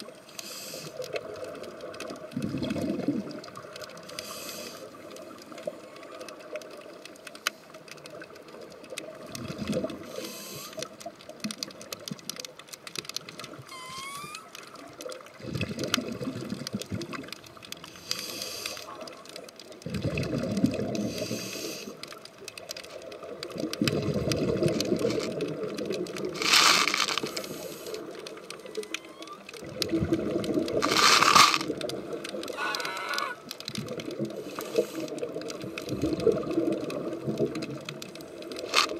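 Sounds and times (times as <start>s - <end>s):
underwater air bubbling: 0.0s - 12.4s, 13.2s - 38.9s.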